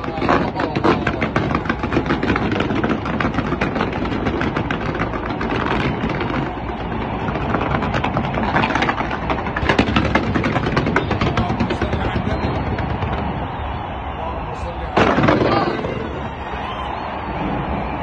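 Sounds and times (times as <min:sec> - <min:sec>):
fireworks cracking and popping: 0:00.0 - 0:14.2, 0:14.9 - 0:18.0.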